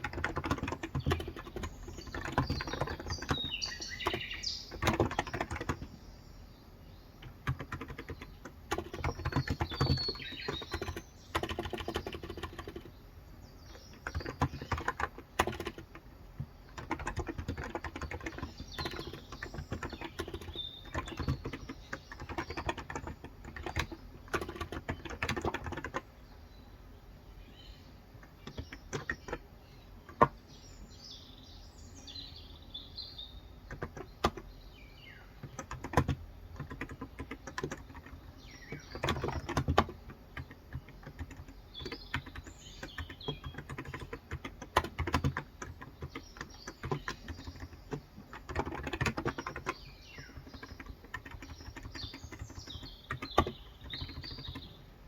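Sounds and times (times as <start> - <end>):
keyboard typing: 0.0 - 6.0, 7.2 - 12.9, 13.7 - 26.1, 28.2 - 29.5, 30.1 - 30.4, 33.7 - 34.5, 35.4 - 54.8
birds chirping: 0.0 - 55.0.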